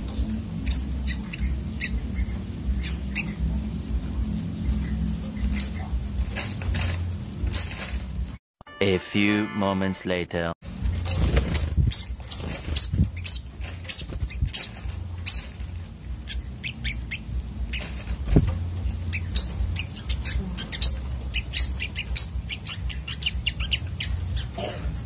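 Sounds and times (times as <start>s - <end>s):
low background hum: 0.0s - 8.4s, 10.3s - 25.0s
sunbirds chirping: 0.0s - 8.4s, 10.6s - 25.0s.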